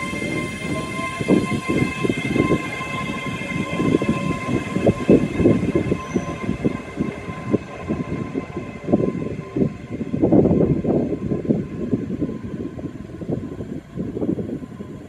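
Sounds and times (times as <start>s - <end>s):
high electric whine: 0.0s - 15.0s.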